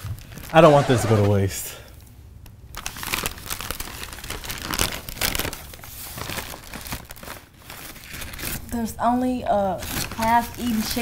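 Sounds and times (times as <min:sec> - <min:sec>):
paper bag crinkling and rustling: 0:00.0 - 0:01.8, 0:02.7 - 0:11.0.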